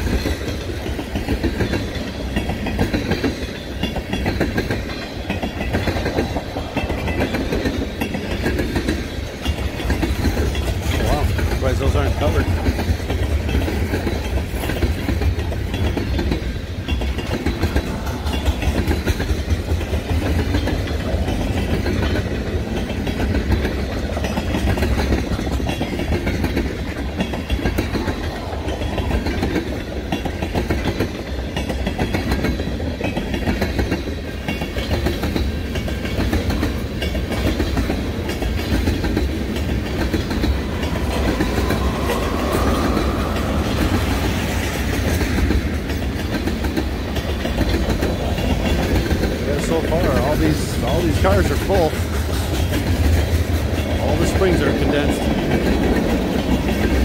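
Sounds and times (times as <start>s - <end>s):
freight train wheels clacking: 0.0s - 57.0s.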